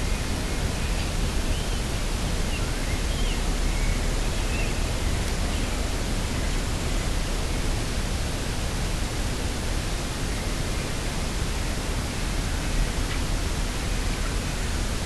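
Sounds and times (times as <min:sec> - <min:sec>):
rushing wind with low rumble: 0:00.0 - 0:15.0.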